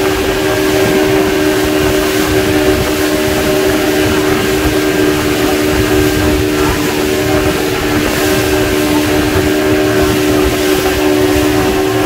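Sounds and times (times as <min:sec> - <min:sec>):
motorboat engine droning: 0:00.0 - 0:12.0
water rushing past hull: 0:00.0 - 0:12.0
wind: 0:00.0 - 0:12.0.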